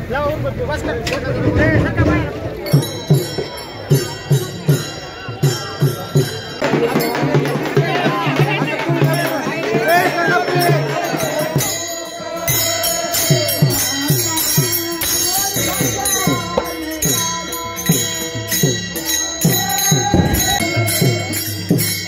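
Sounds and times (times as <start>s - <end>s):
crowd voices: 0.0s - 22.0s
hand cymbal clashes: 2.6s - 22.0s
group singing: 3.5s - 21.8s.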